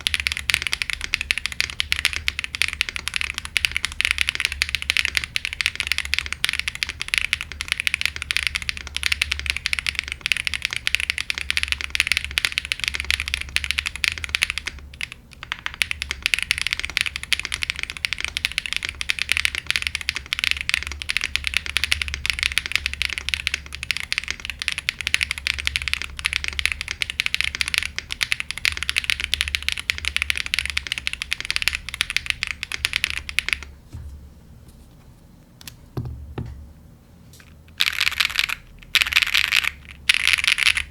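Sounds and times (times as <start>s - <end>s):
mechanical keyboard typing: 0.0s - 33.7s, 37.4s - 40.9s.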